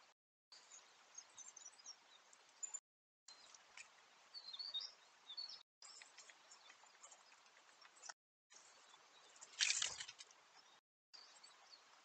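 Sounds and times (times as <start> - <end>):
faint high bird chirps: 0.5 - 12.0.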